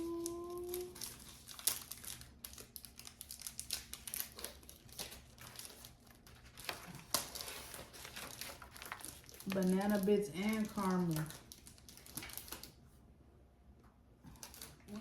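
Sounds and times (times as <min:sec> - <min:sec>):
snack packaging crinkling: 0:00.0 - 0:12.8, 0:14.3 - 0:15.0.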